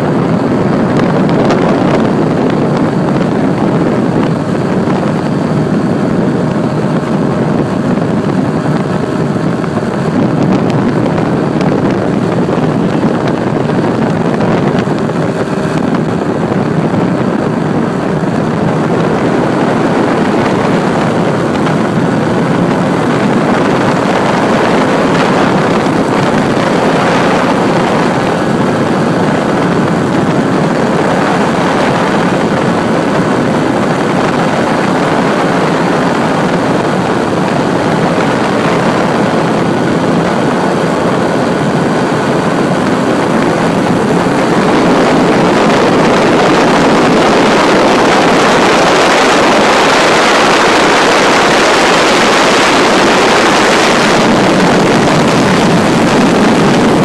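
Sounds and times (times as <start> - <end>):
aircraft engine with rushing air: 0.0 - 57.0.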